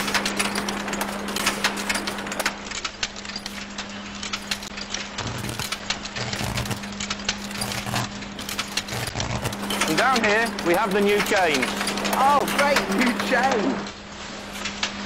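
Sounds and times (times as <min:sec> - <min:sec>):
low welding buzz: 0:00.0 - 0:15.0
machine clicking and clattering: 0:00.0 - 0:15.0
steady machine hum: 0:00.0 - 0:15.0.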